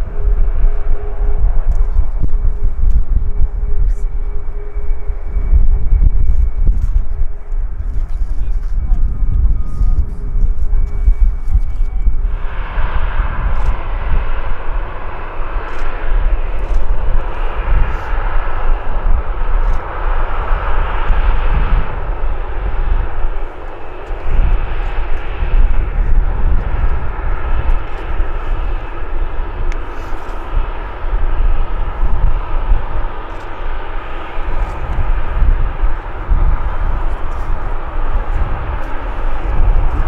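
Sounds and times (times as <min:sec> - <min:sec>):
jet engines hissing and rumbling: 0:00.0 - 0:40.0.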